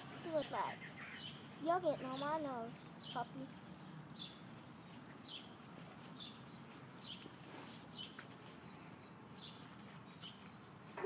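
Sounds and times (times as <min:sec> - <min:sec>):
outdoor background noise: 0:00.0 - 0:11.0
small bird chirping: 0:00.3 - 0:10.7.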